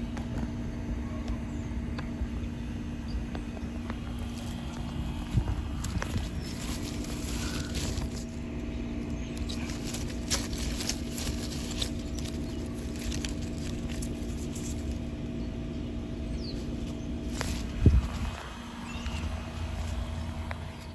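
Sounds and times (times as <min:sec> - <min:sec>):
fan noise: 0:00.0 - 0:20.9
heat pump compressor hum: 0:00.0 - 0:20.9.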